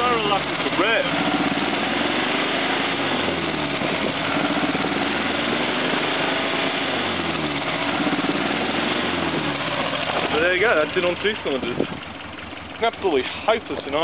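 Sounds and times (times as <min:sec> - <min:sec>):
car engine running roughly: 0:00.0 - 0:14.0.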